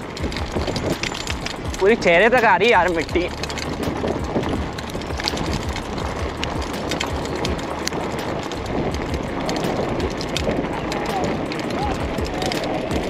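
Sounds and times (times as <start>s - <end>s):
bicycle tyres rushing on gravel: 0.0s - 13.0s
bike rattling: 0.0s - 13.0s
wheels knocking on stones: 0.0s - 13.0s.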